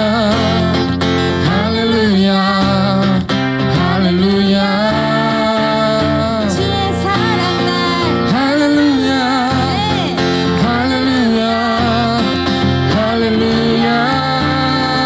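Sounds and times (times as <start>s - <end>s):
acoustic guitar strumming: 0.0s - 15.0s
person singing: 0.0s - 15.0s.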